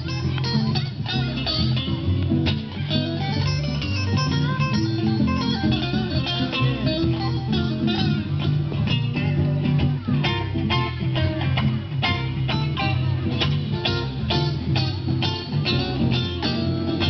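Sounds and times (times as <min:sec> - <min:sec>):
live band instrumental music: 0:00.0 - 0:17.0.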